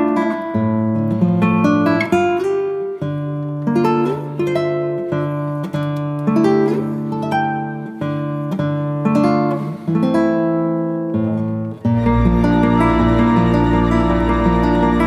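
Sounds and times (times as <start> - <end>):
acoustic guitar slow melody: 0.0 - 15.0.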